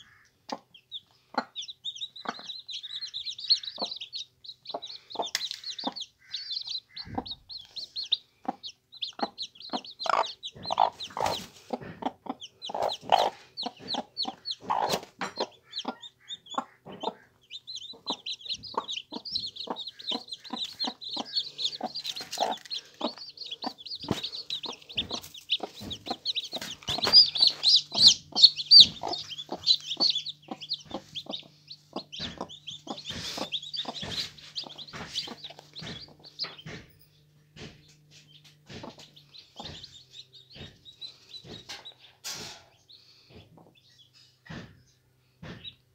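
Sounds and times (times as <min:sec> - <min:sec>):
hen clucking: 0:00.0 - 0:44.8
chicks peeping: 0:00.0 - 0:45.9.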